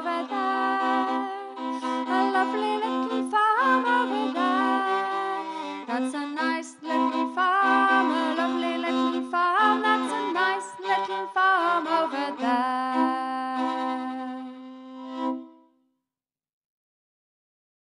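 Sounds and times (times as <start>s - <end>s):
folk song singing: 0.0s - 14.6s
instrumental accompaniment: 0.0s - 15.7s.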